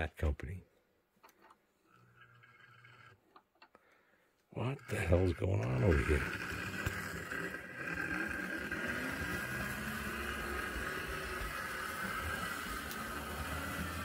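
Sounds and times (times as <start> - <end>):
model train motor whirring: 1.4 - 3.4, 4.6 - 14.0.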